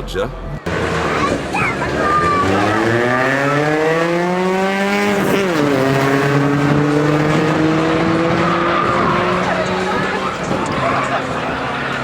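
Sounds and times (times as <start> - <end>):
car engine accelerating hard: 0.6 - 12.0.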